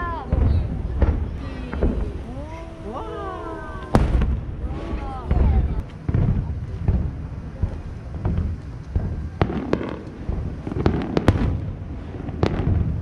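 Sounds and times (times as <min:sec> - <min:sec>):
fireworks booming: 0:00.0 - 0:13.0
fireworks cracking: 0:00.0 - 0:13.0.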